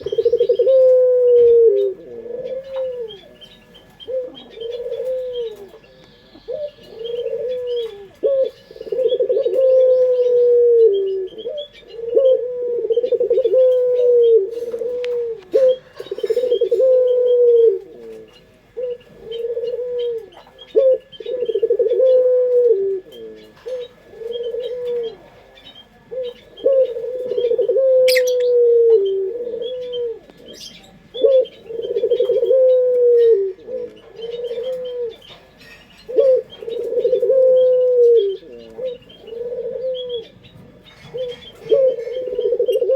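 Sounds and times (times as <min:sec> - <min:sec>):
dove cooing: 0:00.0 - 0:42.9
small birds chirping: 0:00.0 - 0:42.9.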